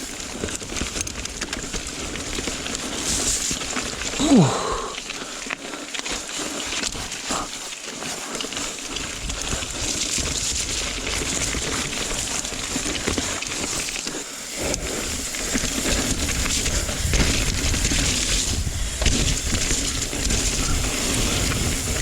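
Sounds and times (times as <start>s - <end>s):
bike rattling over rocks: 0.0s - 22.0s
bike tyres crackling on dirt: 0.0s - 22.0s.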